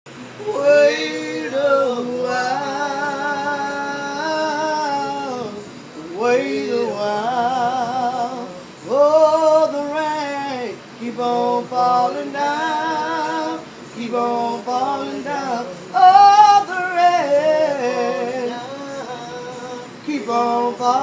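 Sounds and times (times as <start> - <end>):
women singing unaccompanied: 0.3 - 21.0.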